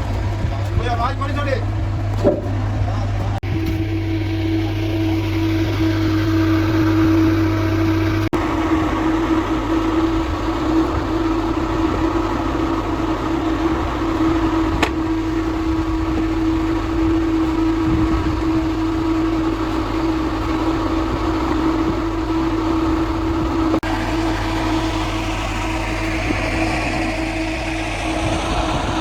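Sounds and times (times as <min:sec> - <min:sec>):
machinery motor hum: 0:00.0 - 0:29.0.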